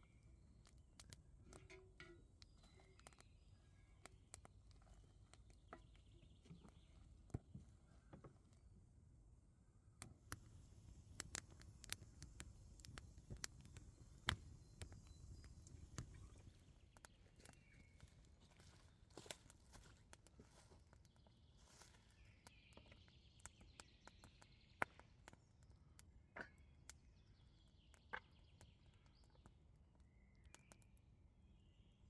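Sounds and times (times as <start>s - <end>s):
faint bird chirps: 0.0s - 0.8s, 1.5s - 8.3s, 11.8s - 32.0s
wood fire crackling: 0.0s - 31.1s.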